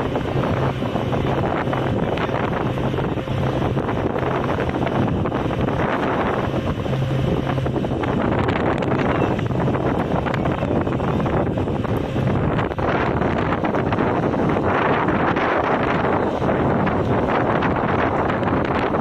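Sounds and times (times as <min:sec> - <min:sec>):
ferry engine hum: 0:00.0 - 0:19.0
wind buffeting microphone: 0:00.0 - 0:19.0.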